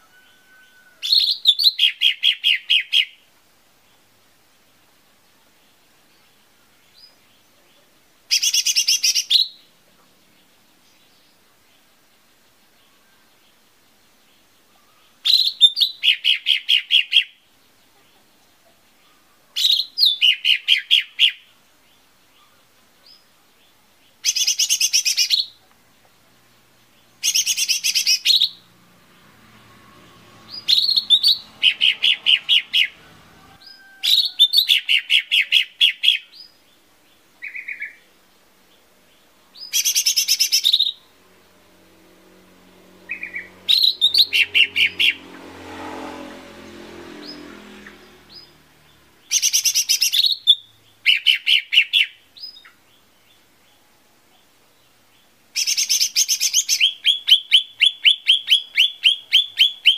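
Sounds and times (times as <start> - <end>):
bird singing rapid notes: 0.0 - 59.9.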